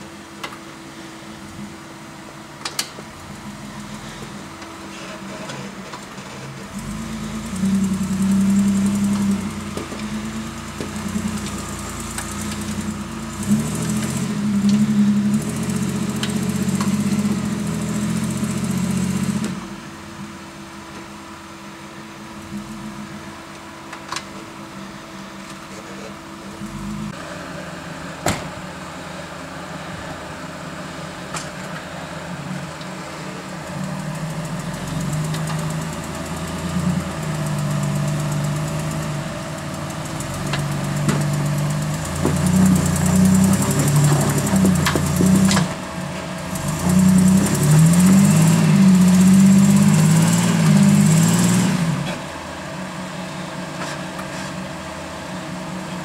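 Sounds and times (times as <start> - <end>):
engine working at low speed: 0.0 - 56.0.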